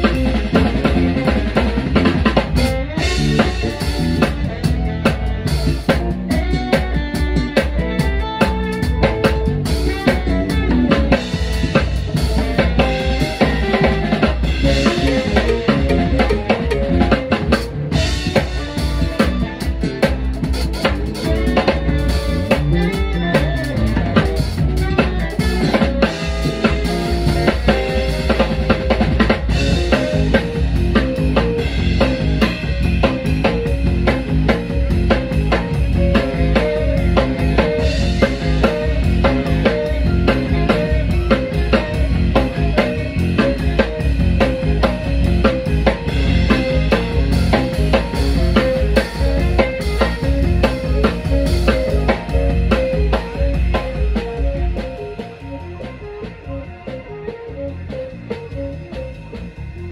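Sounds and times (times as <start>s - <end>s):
drum kit: 0.0s - 59.9s
live band playing: 0.0s - 59.9s
saxophone: 0.0s - 59.9s.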